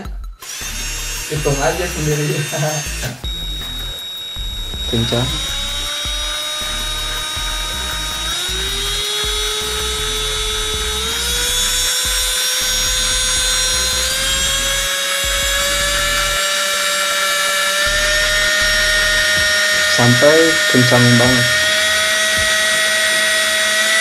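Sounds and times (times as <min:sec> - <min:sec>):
cordless drill motor whining: 0:00.3 - 0:24.0.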